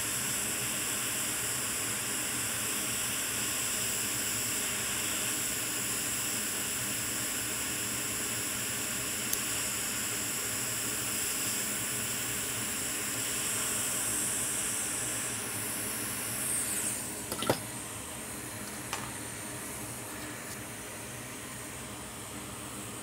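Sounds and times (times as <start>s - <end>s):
hot air blowing: 0.0s - 23.0s.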